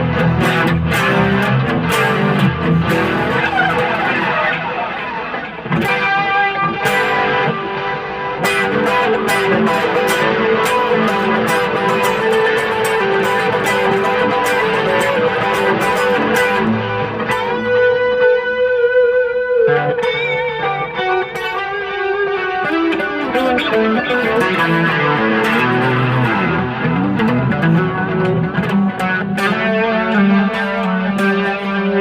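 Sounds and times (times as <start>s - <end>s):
clean electric guitar: 0.0s - 32.0s.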